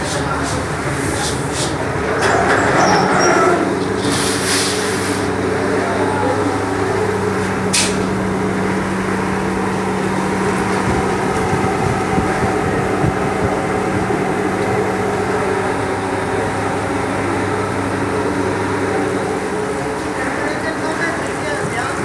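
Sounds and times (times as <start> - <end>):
production line machinery running: 0.0 - 22.0.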